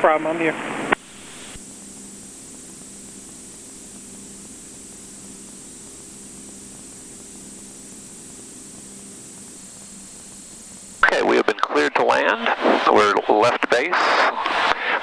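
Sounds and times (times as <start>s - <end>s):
airplane engine drone: 0.0s - 15.0s
steady hiss: 0.0s - 15.0s.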